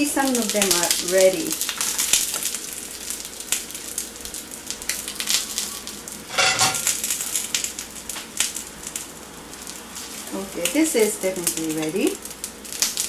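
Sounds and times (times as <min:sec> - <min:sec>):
eggplant sizzling in oil: 0:00.0 - 0:13.0
small crackles: 0:00.2 - 0:13.0.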